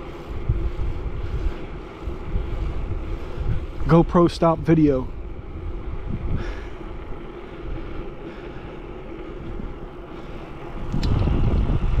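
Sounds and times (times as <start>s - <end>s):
bicycle tyres rolling: 0.0s - 12.0s.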